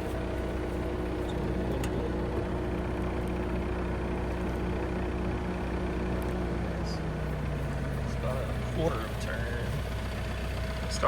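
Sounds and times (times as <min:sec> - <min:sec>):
pickup engine idling: 0:00.0 - 0:11.0.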